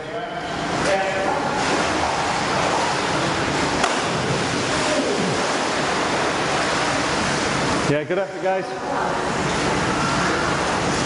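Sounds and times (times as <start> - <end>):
churned pool water rushing: 0.6 - 11.0.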